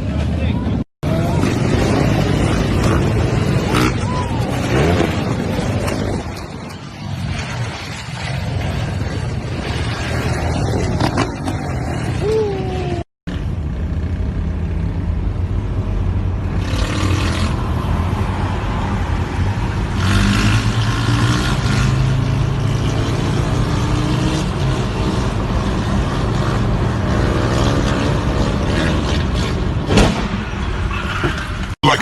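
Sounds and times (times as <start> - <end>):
vehicle engines running at speed: 0.0 - 32.0.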